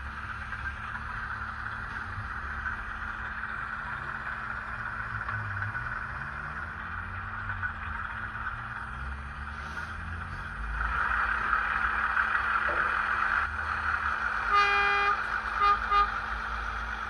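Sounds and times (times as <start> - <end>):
diesel engine rumble from small speaker: 0.0 - 17.0.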